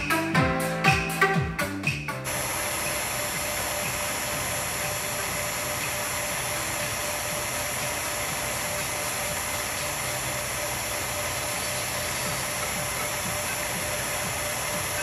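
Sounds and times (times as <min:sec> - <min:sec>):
film projector whirring: 0:02.2 - 0:15.0.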